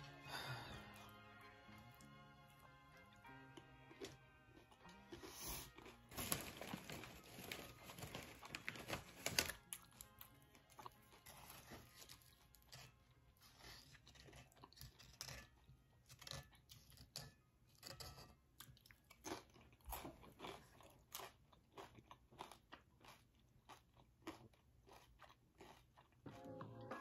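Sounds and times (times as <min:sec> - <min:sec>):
person chewing crunchy chips: 0:00.1 - 0:27.0.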